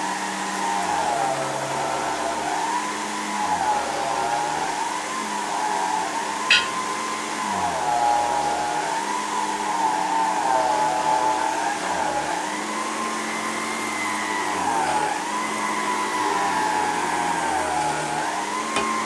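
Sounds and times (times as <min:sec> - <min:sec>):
vacuum cleaner on carpet: 0:00.0 - 0:19.0.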